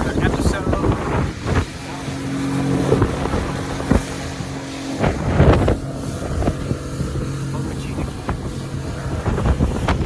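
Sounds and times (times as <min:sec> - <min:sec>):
engine running at steady pitch: 0:00.0 - 0:10.0
wind gusting on microphone: 0:00.0 - 0:10.0.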